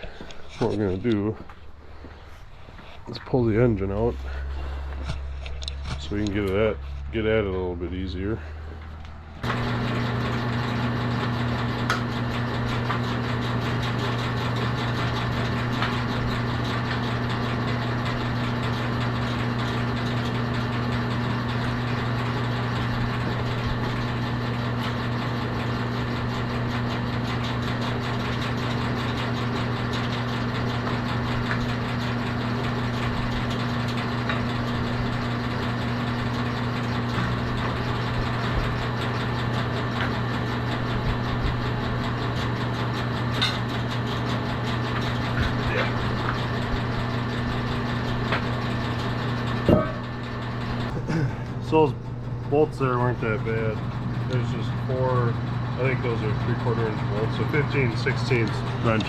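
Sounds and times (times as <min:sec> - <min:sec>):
motor humming steadily: 0:00.0 - 0:59.0.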